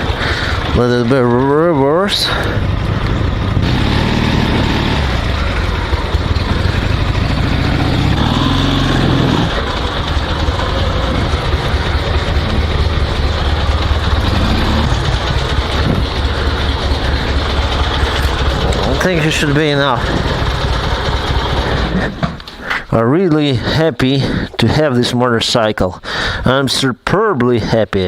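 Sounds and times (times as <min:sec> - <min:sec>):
motorcycle engine at low revs: 0:00.0 - 0:22.6.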